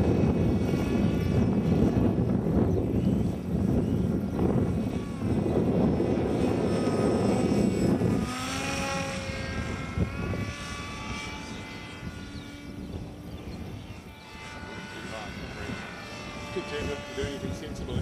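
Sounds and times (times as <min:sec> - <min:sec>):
electric motor propeller whining: 0:00.0 - 0:18.0
wind buffeting microphone: 0:00.0 - 0:18.0.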